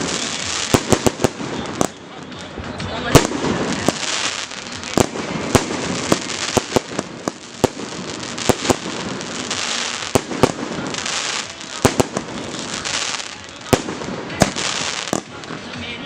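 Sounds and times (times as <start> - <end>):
continuous noisy hiss: 0.0 - 16.0
fireworks bangs: 0.0 - 16.0.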